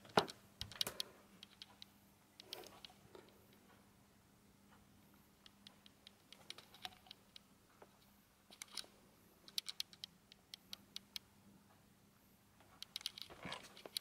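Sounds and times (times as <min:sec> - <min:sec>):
light clicks and taps: 0:00.0 - 0:03.8, 0:04.7 - 0:11.3, 0:12.6 - 0:14.0.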